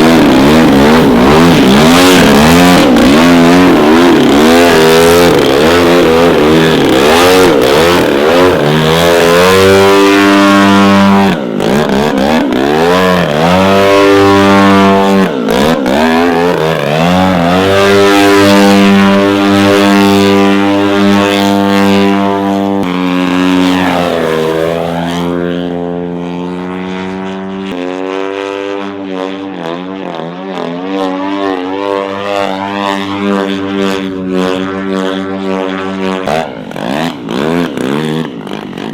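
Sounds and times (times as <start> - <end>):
model aeroplane engine droning: 0.0 - 38.9.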